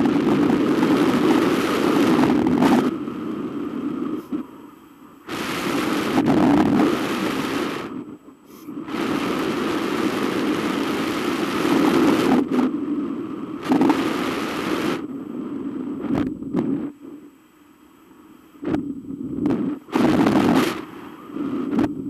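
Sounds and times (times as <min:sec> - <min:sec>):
wind rushing over microphone: 0:00.0 - 0:04.6, 0:05.2 - 0:17.2, 0:18.6 - 0:22.0.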